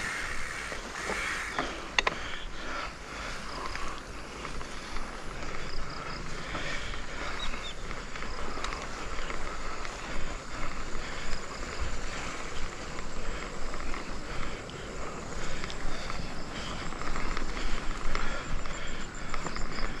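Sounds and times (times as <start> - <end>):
bike tyres swishing through grass: 0.0 - 2.3, 3.2 - 18.8
bike ticks and rattles: 0.0 - 20.0.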